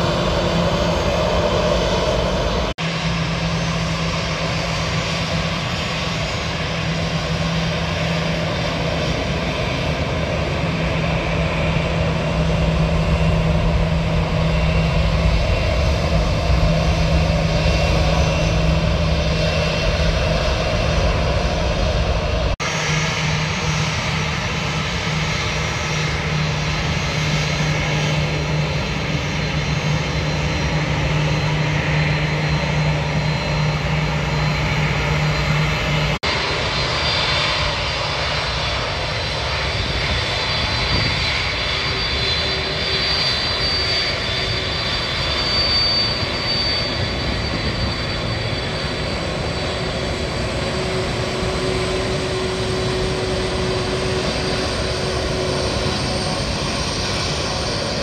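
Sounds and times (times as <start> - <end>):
airliner engine noise: 0.0 - 58.0
steady high whine: 0.0 - 58.0.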